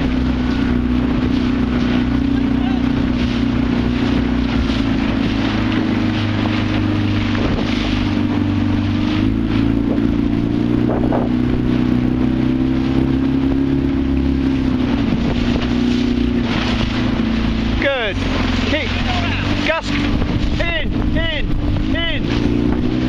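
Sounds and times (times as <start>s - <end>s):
motorboat engine humming: 0.0s - 23.0s.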